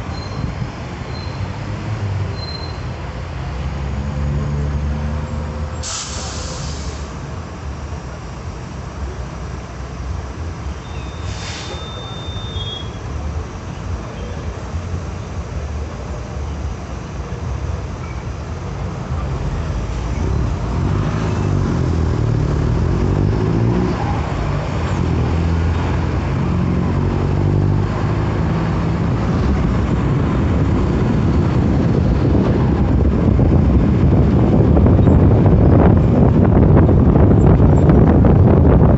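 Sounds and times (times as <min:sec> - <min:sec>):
bus diesel engine exhaust: 0:00.0 - 0:38.9.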